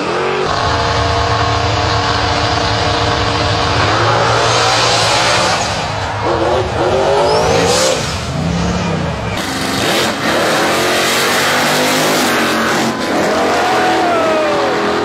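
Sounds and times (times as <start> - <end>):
drag racing cars revving: 0.0 - 15.0.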